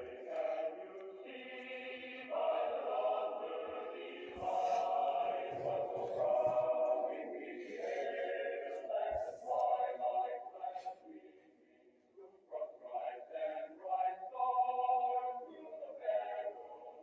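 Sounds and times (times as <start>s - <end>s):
choir singing long held notes: 0.0s - 17.0s.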